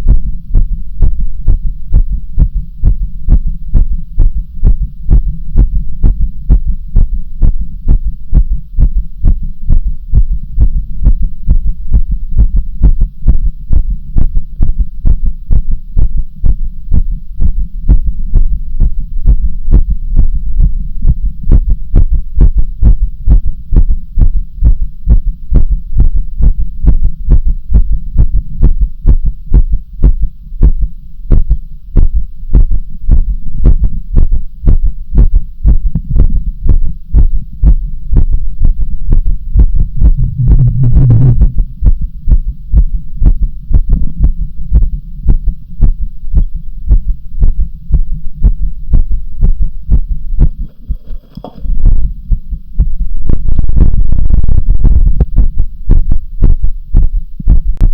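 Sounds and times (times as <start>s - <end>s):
heartbeat: 0.0s - 57.9s
low hum: 0.0s - 57.9s.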